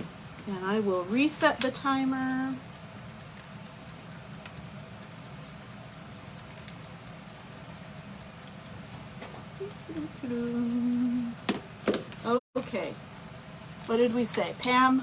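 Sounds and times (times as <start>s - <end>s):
timer ticking: 0.0s - 15.0s.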